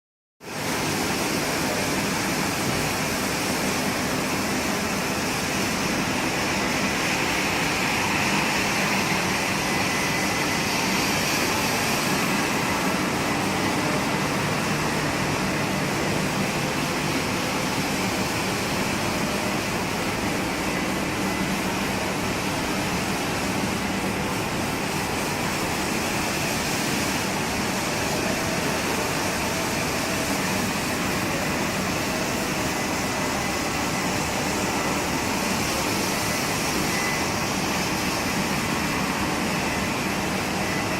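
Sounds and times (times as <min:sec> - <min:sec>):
floor scrubber motor and suction: 0:00.5 - 0:40.9.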